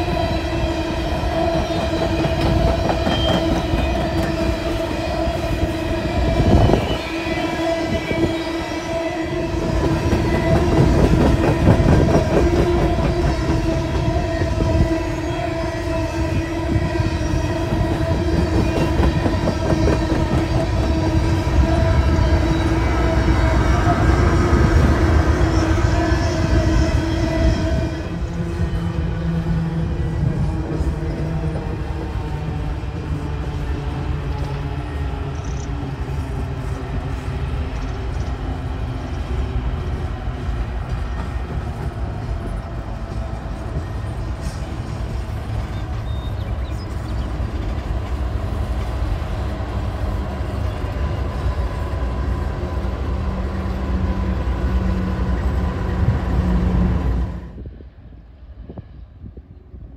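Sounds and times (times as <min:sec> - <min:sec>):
diesel locomotive engine: 0:00.0 - 0:59.9
freight train wheels rumbling on rails: 0:00.0 - 0:59.9.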